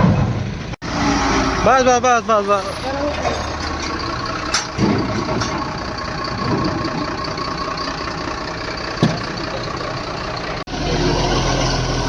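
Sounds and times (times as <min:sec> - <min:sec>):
diesel engine idling: 0:00.6 - 0:12.0.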